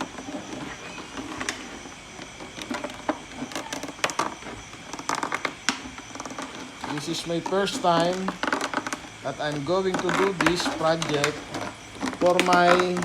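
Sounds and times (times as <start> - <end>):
objects being handled: 0.0 - 13.0.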